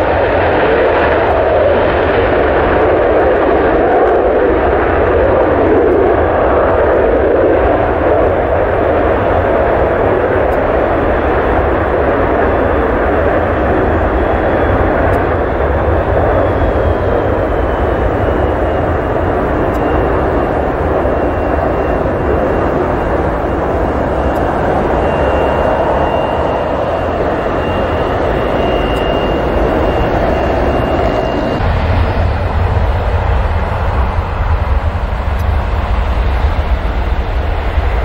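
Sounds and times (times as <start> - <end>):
jet engines roaring: 0.0 - 38.0
faint high whine: 2.9 - 38.0.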